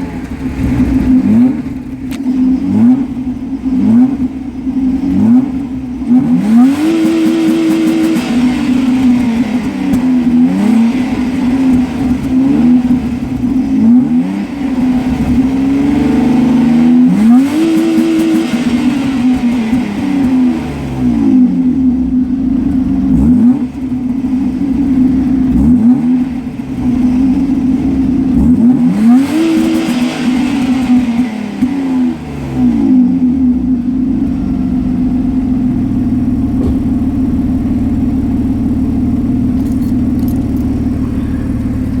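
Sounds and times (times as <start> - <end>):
car engine revving and idling: 0.0 - 42.0.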